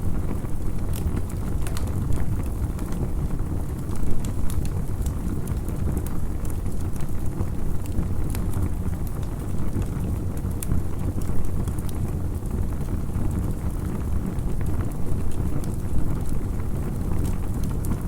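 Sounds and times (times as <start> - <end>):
campfire crackling and popping: 0.2 - 18.0.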